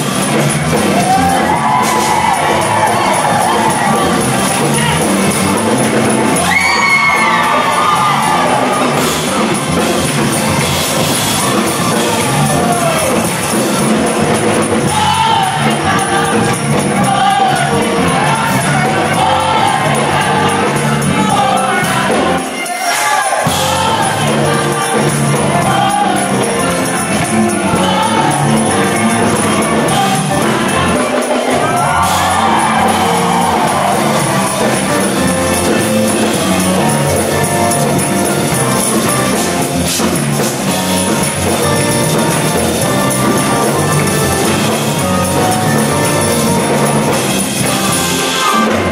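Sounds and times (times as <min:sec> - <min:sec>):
choir singing gospel song: 0:00.0 - 0:48.9
jingling percussion: 0:00.0 - 0:48.9
organ and keyboard: 0:00.0 - 0:48.9.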